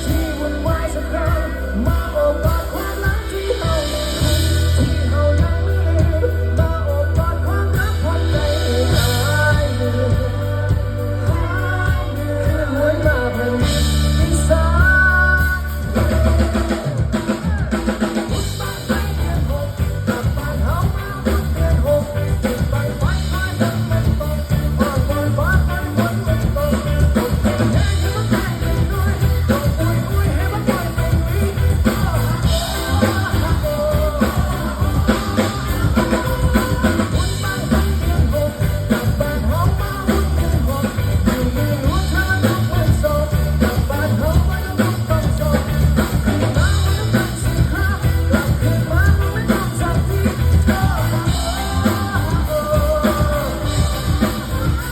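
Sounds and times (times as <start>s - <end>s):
bass: 0.0s - 54.9s
drum kit: 0.0s - 54.9s
man singing: 0.0s - 54.9s.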